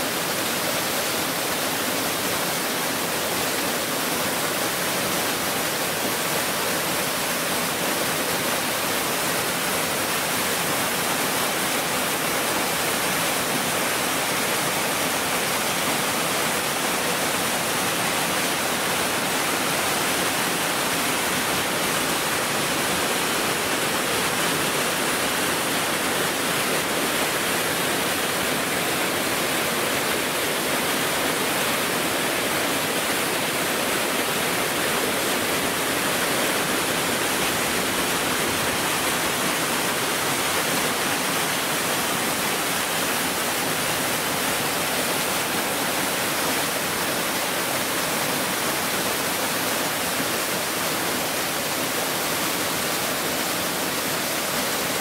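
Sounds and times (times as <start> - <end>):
waterfall pouring over rock: 0.0 - 55.0.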